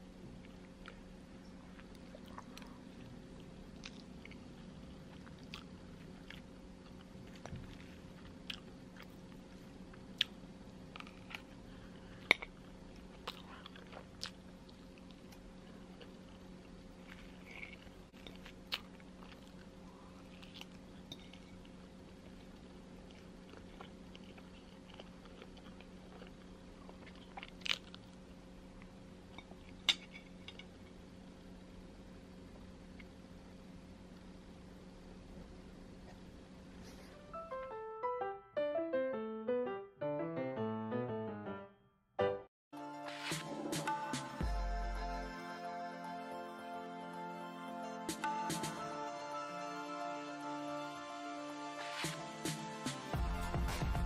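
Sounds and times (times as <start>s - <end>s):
low electrical hum: 0.0s - 41.1s, 42.8s - 54.0s.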